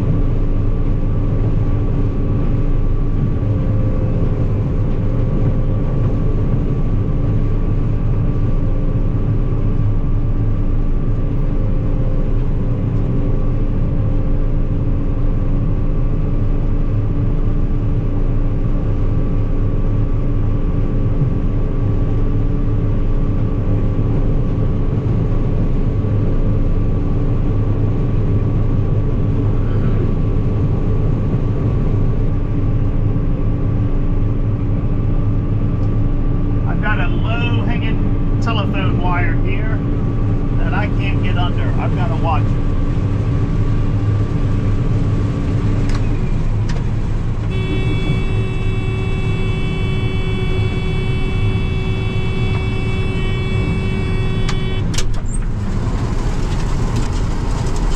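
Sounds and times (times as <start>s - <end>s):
combine harvester droning: 0.0s - 57.9s.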